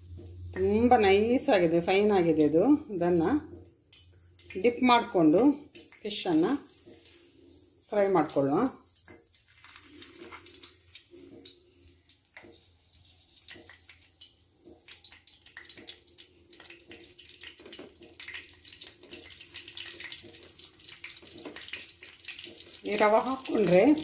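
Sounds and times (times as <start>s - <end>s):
fish frying in hot oil: 0.0s - 24.0s
oil crackling and popping: 2.2s - 24.0s.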